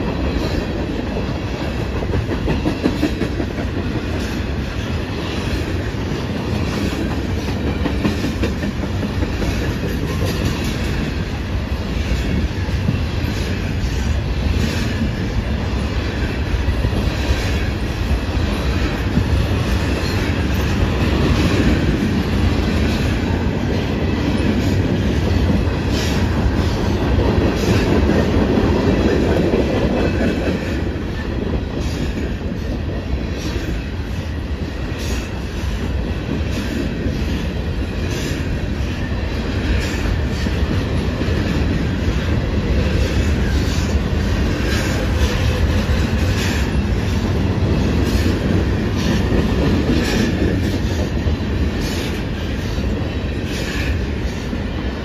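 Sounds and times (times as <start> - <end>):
freight train wheels rumbling: 0.0 - 55.0
wheels clickety-clack on track: 0.0 - 55.0.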